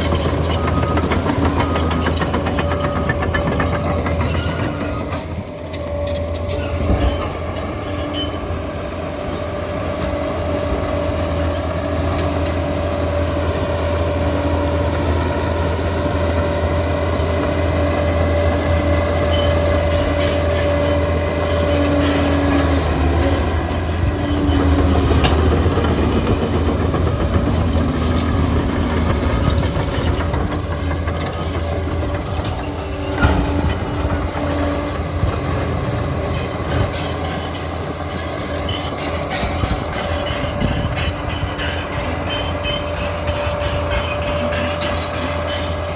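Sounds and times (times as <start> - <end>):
diesel engine working: 0.0 - 45.9.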